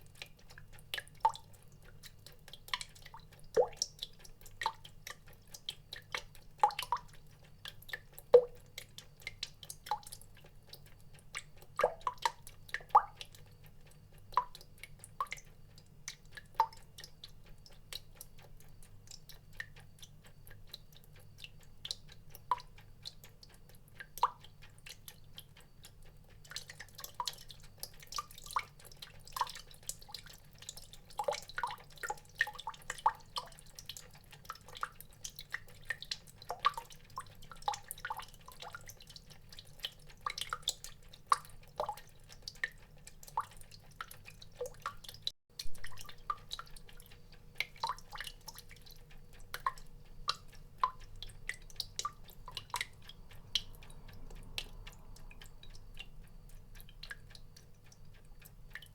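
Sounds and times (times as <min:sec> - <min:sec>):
water drops dripping: 0:00.0 - 0:58.9.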